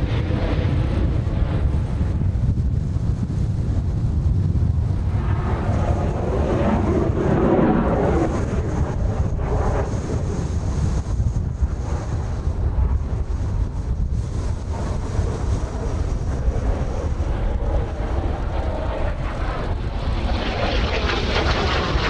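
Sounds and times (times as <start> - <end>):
distant jet passing: 0.0 - 22.0
wind buffeting microphone: 0.0 - 22.0.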